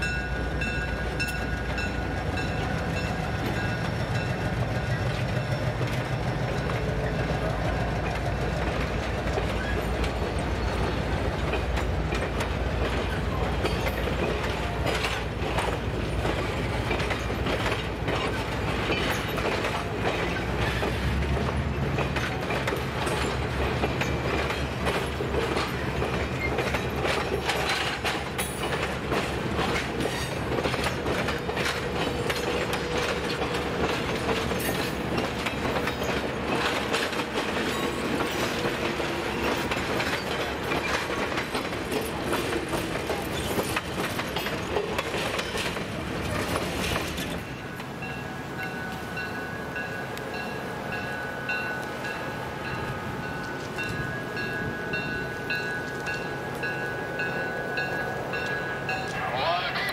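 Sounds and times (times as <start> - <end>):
train wheels clicking over rail joints: 0.0 - 59.2.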